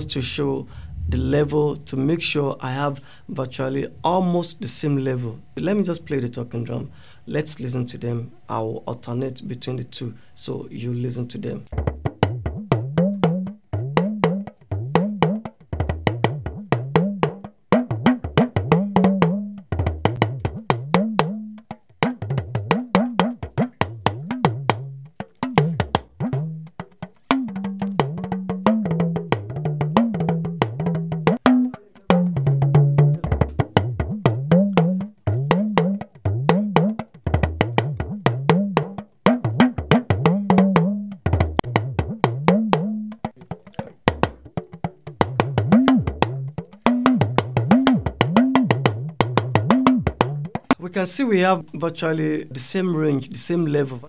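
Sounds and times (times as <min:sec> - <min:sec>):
talking drum rapid strokes: 0:00.0 - 0:02.9, 0:11.7 - 0:54.0.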